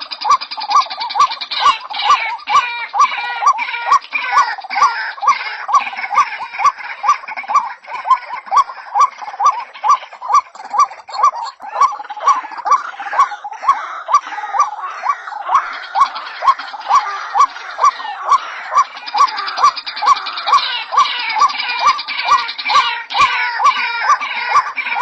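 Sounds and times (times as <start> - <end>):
overlapping bird calls: 0.0 - 25.0
waterhen calling: 0.0 - 25.0.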